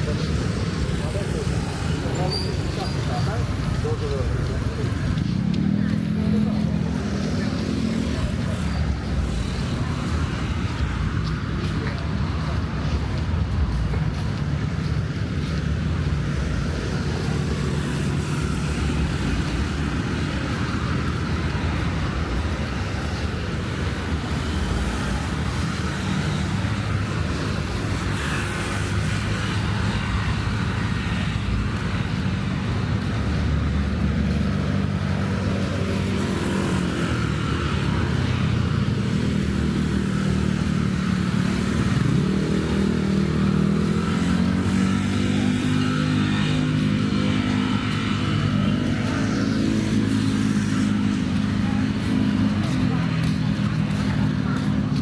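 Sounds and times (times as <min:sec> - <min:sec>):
vehicle engines passing: 0:00.0 - 0:55.0.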